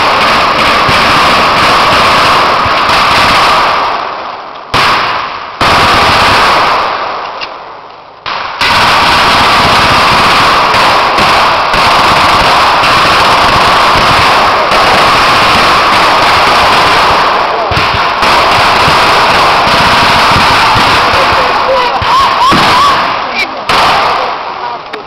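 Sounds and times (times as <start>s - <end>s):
machine-gun and rifle fire: 0.0s - 7.3s, 8.3s - 24.6s.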